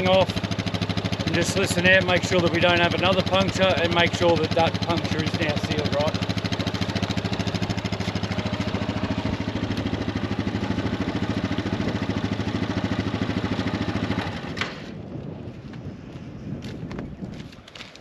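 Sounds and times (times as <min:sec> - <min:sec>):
engine idling: 0:00.0 - 0:14.6.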